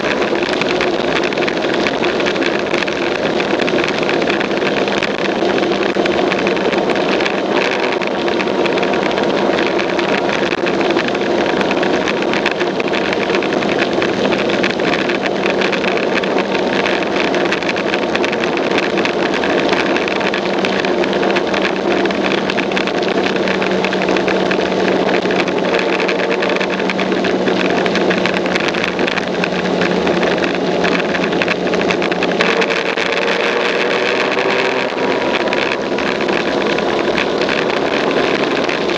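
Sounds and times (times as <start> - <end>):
motor scooter engine running: 0.0 - 38.9
wind and road noise: 0.0 - 38.9.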